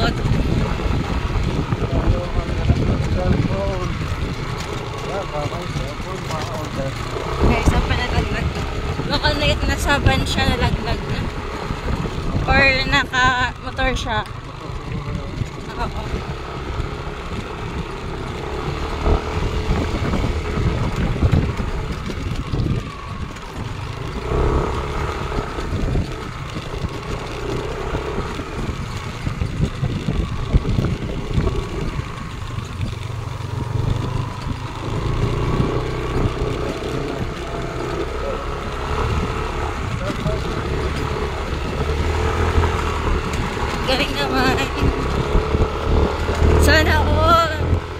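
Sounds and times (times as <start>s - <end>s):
heavy low rumble: 0.0s - 47.9s
scooter engine running: 0.0s - 47.9s.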